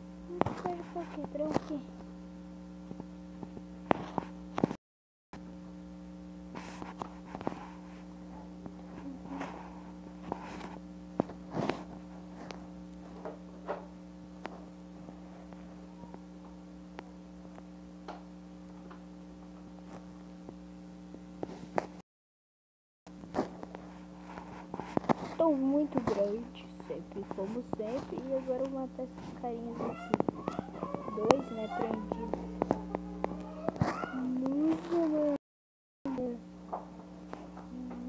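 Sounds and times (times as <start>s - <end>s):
electrical mains hum: 0.0s - 4.8s, 5.4s - 22.0s, 23.1s - 35.4s, 36.1s - 38.0s.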